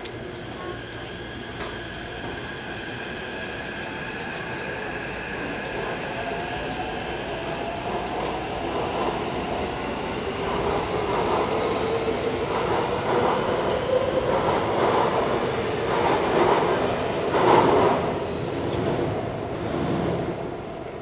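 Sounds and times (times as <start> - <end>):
wheels rumbling on rail: 0.0 - 20.8.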